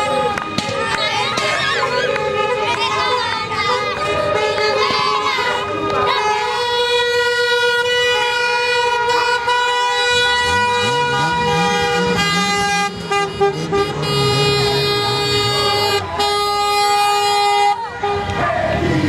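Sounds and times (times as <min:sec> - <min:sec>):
car horns honking: 0:00.0 - 0:19.0.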